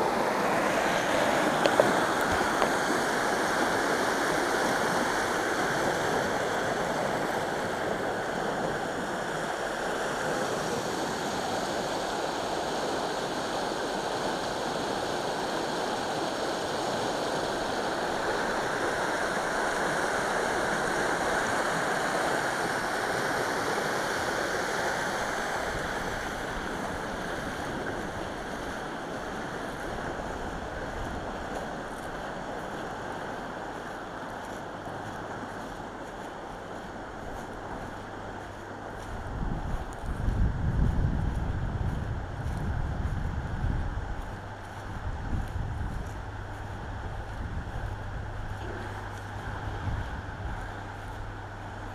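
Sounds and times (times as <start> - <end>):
turbulent water rushing: 0.0 - 51.9.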